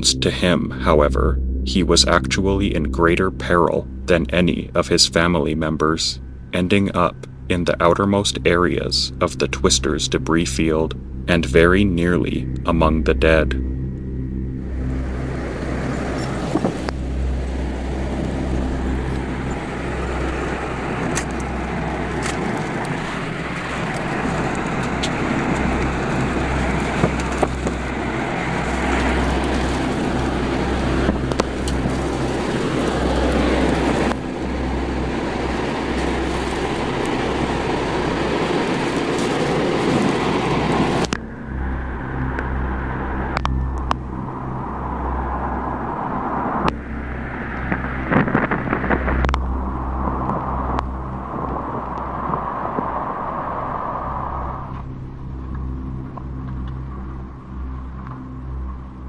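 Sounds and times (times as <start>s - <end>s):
strong wind buffeting microphone: 10.7s - 59.0s.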